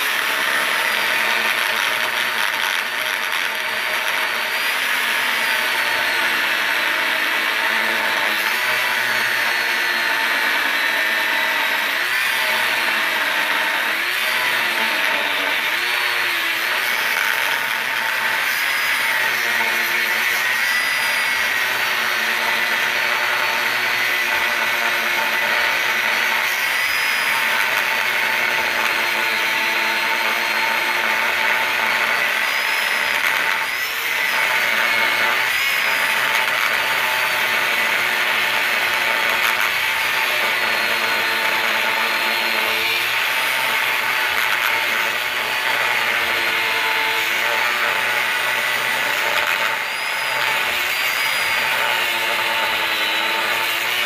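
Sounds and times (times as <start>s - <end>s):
power tool whining cutting metal: 0.0s - 54.0s.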